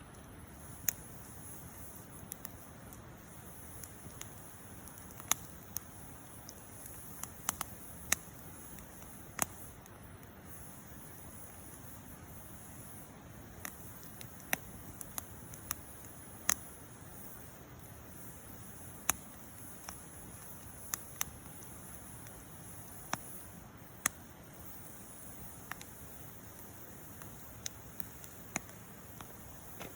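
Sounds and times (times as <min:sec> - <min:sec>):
campfire wood popping: 0:00.0 - 0:29.9
fire hissing: 0:00.0 - 0:29.9.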